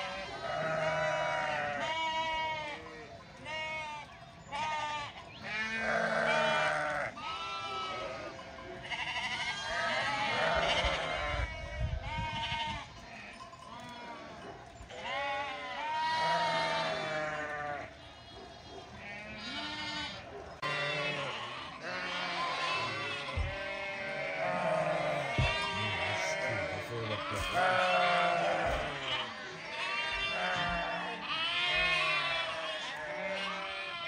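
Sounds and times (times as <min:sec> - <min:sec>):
sheep and lamb bleating: 0:00.0 - 0:34.0.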